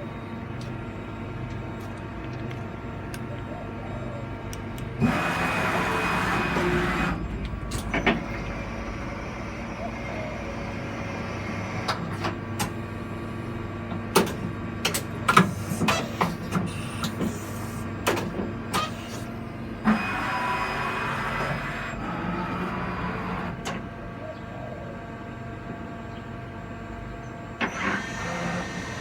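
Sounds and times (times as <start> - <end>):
milling machine humming: 0.0 - 24.2, 25.0 - 29.0
multi-tone machine whine: 0.0 - 29.0.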